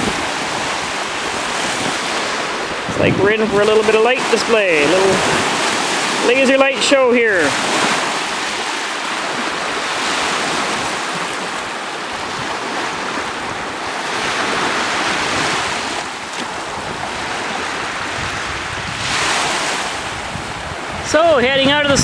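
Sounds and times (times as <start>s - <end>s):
surf washing onto beach: 0.0s - 22.0s
wind on microphone: 0.0s - 22.0s.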